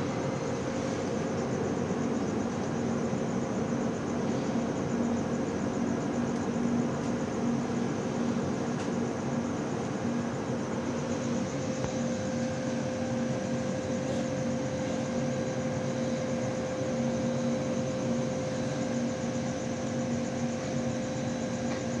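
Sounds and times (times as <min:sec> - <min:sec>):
air-conditioning unit humming: 0:00.0 - 0:22.0.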